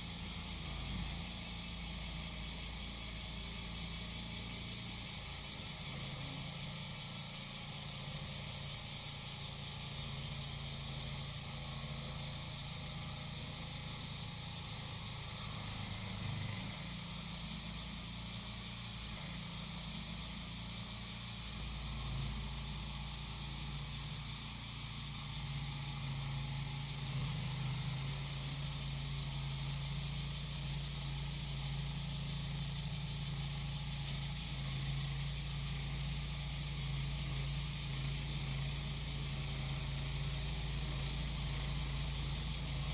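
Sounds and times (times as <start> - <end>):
cicadas droning: 0.0 - 42.9
lawn mower engine running: 0.0 - 42.9.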